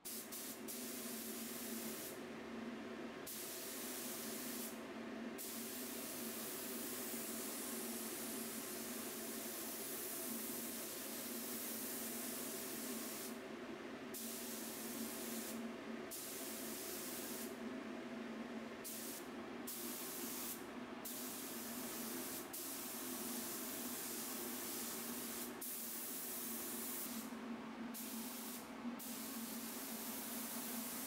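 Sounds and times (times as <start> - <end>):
spray gun hissing: 0.0 - 2.1, 3.3 - 4.8, 5.4 - 8.6, 9.3 - 13.4, 14.2 - 17.5, 18.8 - 27.3, 28.0 - 31.0.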